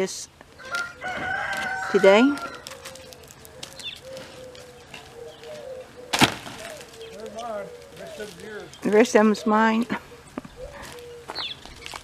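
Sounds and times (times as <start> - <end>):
faint bird calls: 0.5 - 12.0.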